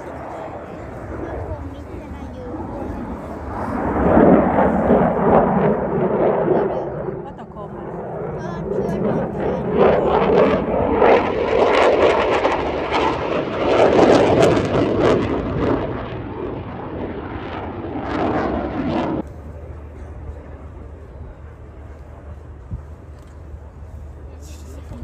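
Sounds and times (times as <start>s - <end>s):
distant jet noise: 0.0s - 25.0s
fighter jet engine roaring: 0.0s - 25.0s.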